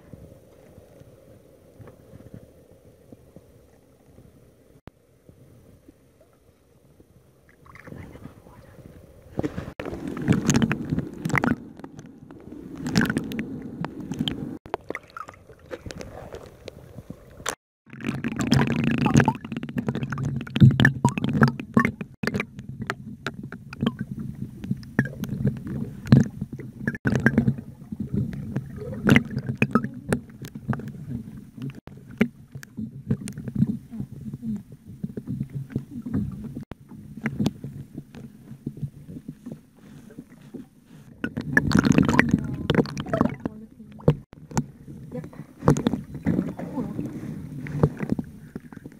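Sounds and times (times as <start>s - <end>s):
water sloshing at microphone: 0.0s - 48.9s.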